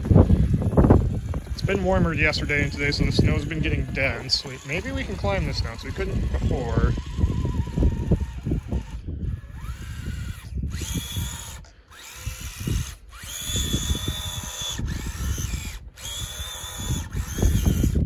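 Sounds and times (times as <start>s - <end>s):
rc car electric motor whining: 0.0s - 18.0s.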